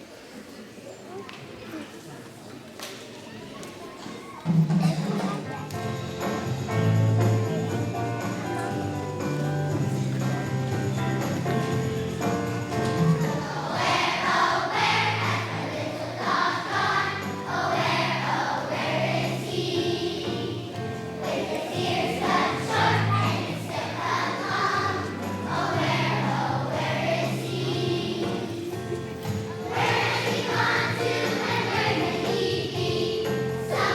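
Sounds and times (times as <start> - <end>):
children's choir singing: 4.2 - 33.9.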